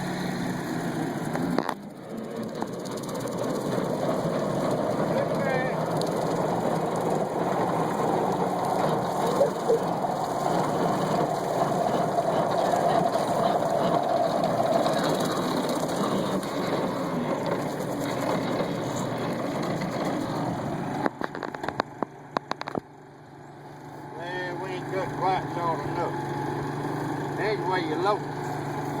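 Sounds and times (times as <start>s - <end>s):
mower rattling clatter: 0.0s - 29.0s.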